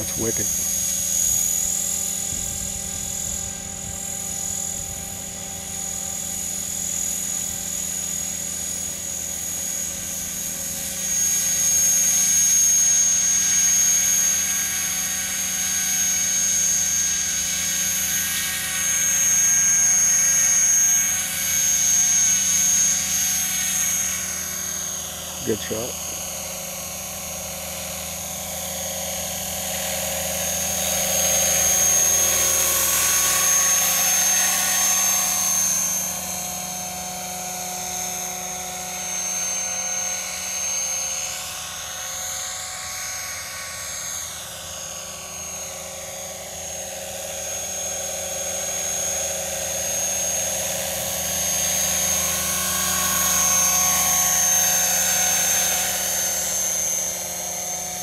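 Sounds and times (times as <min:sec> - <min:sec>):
model helicopter whine: 0:00.0 - 0:58.0.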